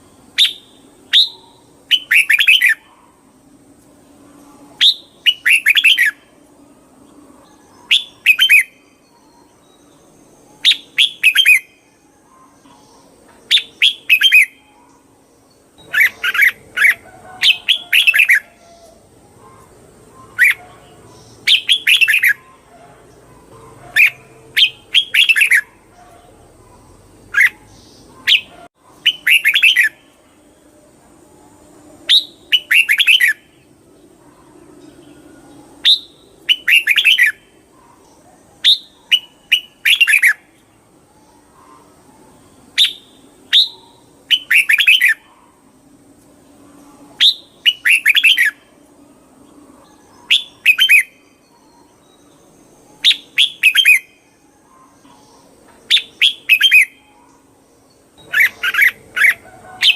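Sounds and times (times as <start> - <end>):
bird singing whistled notes: 0.0 - 3.0, 4.4 - 6.4, 7.1 - 15.1, 15.8 - 22.7, 23.9 - 26.3, 27.3 - 30.2, 32.0 - 33.6, 34.8 - 40.6, 42.6 - 45.6, 46.6 - 48.8, 49.4 - 59.9.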